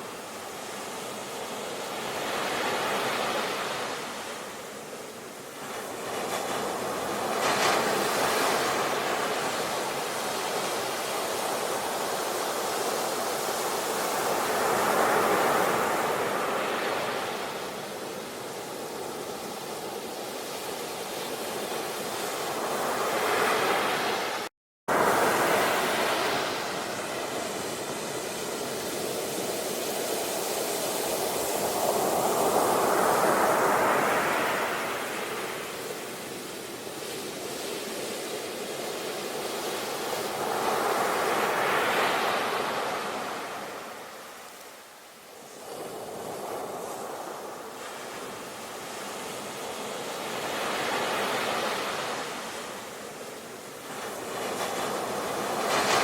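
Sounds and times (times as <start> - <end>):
ocean waves washing in: 0.0 - 56.0.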